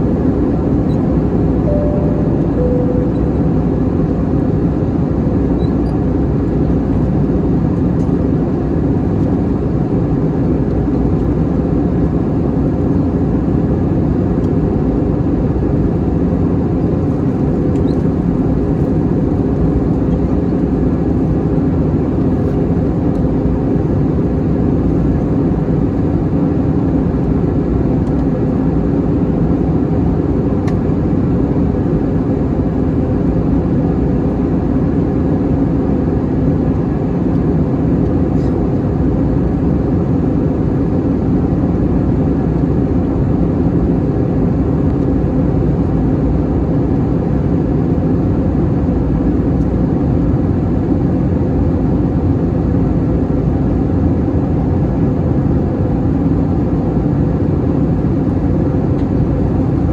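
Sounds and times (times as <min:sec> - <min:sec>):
airplane cabin roar: 0:00.0 - 0:59.9.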